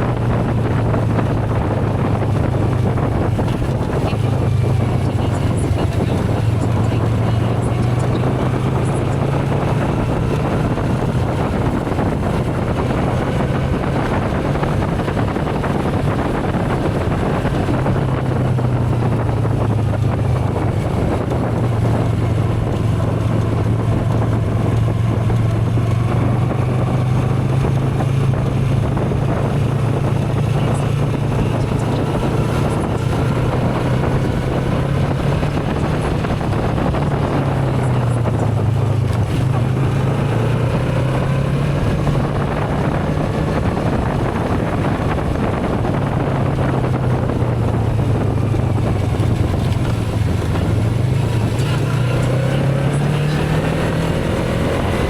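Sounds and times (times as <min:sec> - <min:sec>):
motorcycle engine droning: 0:00.0 - 0:55.0
wind rushing over microphone: 0:00.0 - 0:55.0.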